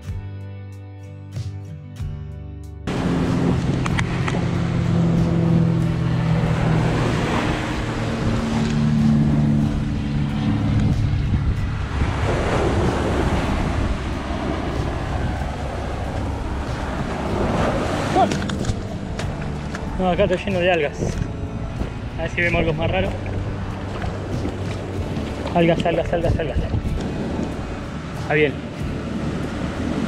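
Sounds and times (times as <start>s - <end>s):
low held music notes: 2.9s - 30.0s
sea waves breaking on shore: 2.9s - 30.0s
wind buffeting microphone: 2.9s - 30.0s.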